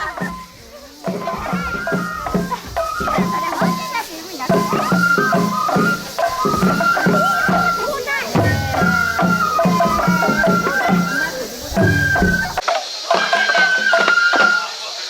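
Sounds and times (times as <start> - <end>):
drums beating: 0.0 - 12.6
high held flute melody: 0.0 - 12.6.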